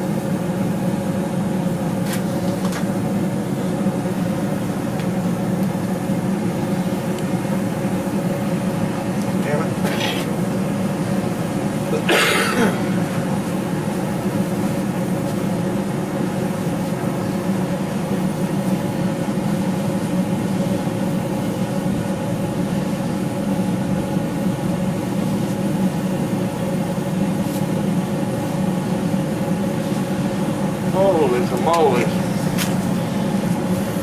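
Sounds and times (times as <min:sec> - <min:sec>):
machine drone: 0:00.0 - 0:34.0.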